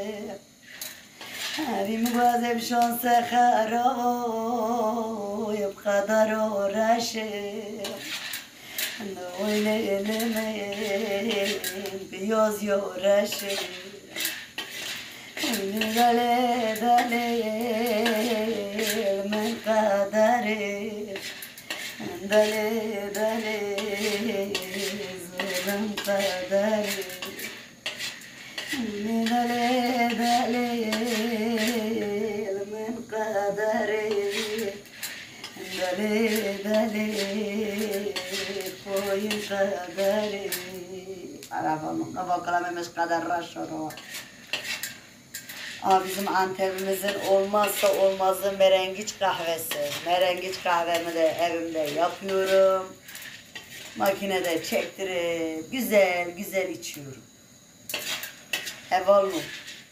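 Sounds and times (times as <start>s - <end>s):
woman singing: 0.0s - 0.6s, 1.5s - 8.2s, 9.0s - 14.2s, 15.4s - 21.3s, 22.0s - 27.6s, 28.7s - 34.9s, 35.5s - 44.0s, 45.8s - 53.0s, 54.0s - 57.2s
metal spoon stirring in a pan: 0.4s - 3.3s, 6.7s - 41.4s, 42.5s - 56.3s, 57.8s - 59.9s.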